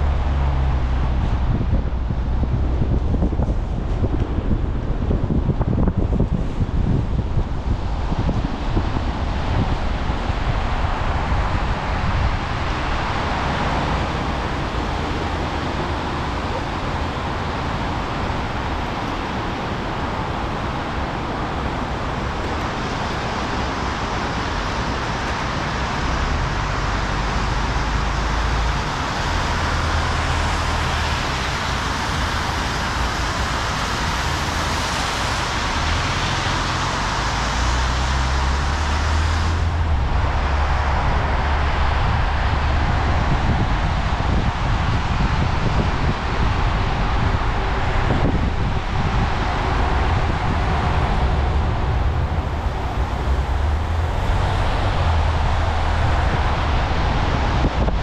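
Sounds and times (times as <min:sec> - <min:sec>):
car tyres hissing on wet road: 0:00.0 - 0:58.0.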